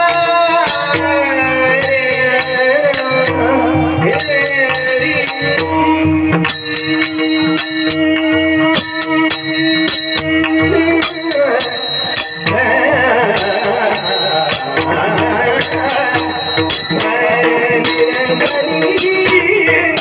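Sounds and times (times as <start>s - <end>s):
drum beats: 0.0s - 20.0s
hand cymbals clashing: 0.0s - 20.0s
voices singing: 0.0s - 20.0s.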